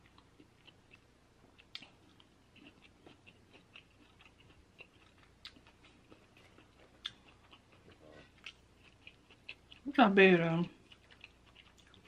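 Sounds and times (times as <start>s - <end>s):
chewing food with closed lips: 0.0s - 10.0s, 10.6s - 12.0s.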